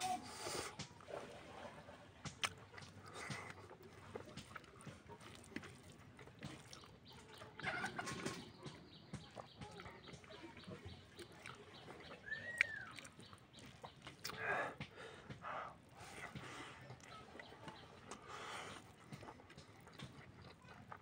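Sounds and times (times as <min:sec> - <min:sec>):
person chewing: 0:02.3 - 0:21.0.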